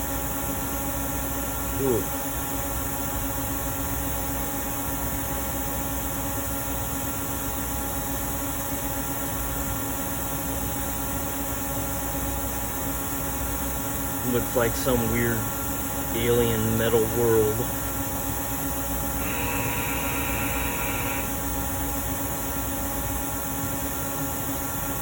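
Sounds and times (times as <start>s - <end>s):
steady electrical hum with hiss: 0.0s - 25.0s.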